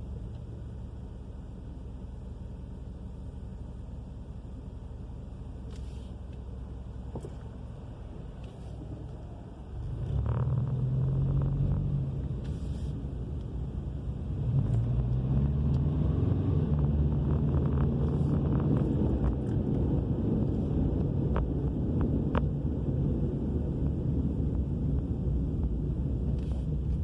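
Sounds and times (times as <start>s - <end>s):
low roaring drone inside car: 0.0s - 27.0s.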